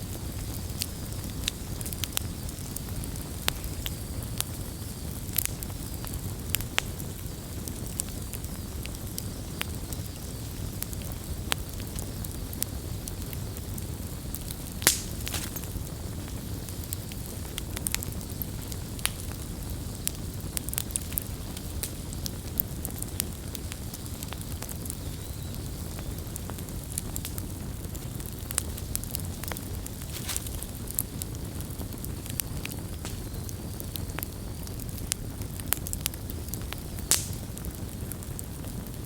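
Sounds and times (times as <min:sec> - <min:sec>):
campfire rumbling: 0:00.0 - 0:39.0
fire crackles and pops: 0:00.0 - 0:39.0.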